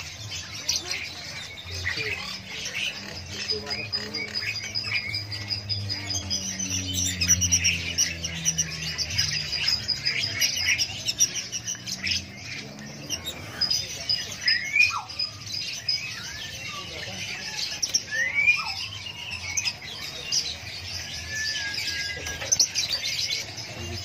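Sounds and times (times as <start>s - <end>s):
birds chirping and chattering: 0.0s - 24.0s.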